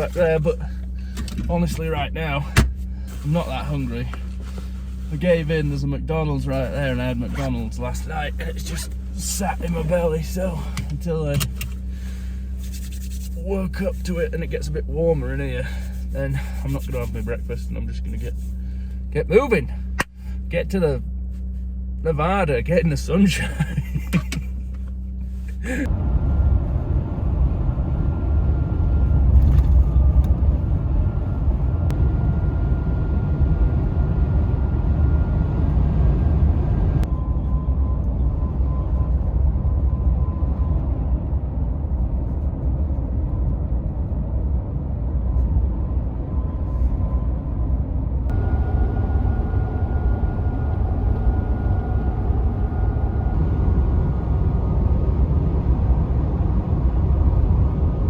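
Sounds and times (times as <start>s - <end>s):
faint high whine: 0.0s - 58.0s
pickup engine and road noise: 0.0s - 58.0s.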